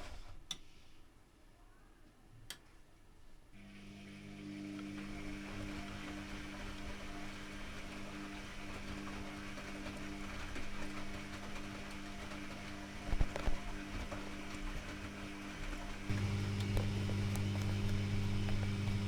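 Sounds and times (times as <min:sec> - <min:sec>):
washing machine humming: 0:03.6 - 0:19.0.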